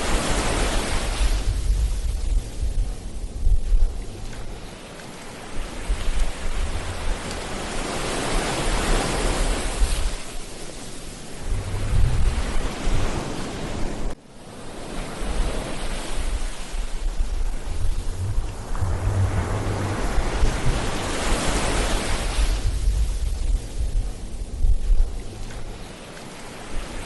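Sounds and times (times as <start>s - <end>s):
ocean surf breaking on beach: 0.0s - 27.0s
wind rumble on microphone: 0.0s - 27.0s.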